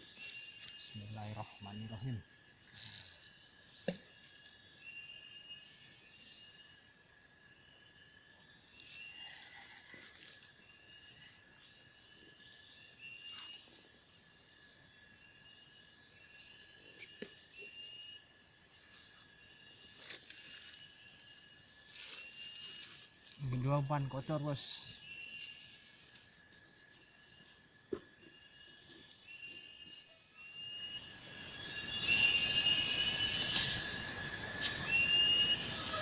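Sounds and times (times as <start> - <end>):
insects humming: 0.0 - 36.0.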